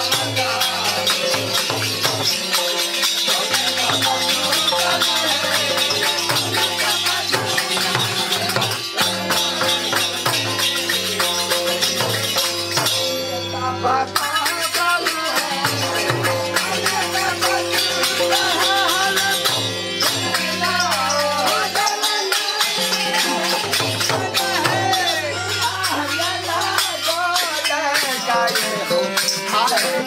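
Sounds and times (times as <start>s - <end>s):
barrel drum fast beat: 0.0s - 13.0s, 14.2s - 30.0s
small hand cymbals jingling: 0.0s - 13.5s, 14.2s - 30.0s
harmonium held notes: 0.0s - 30.0s.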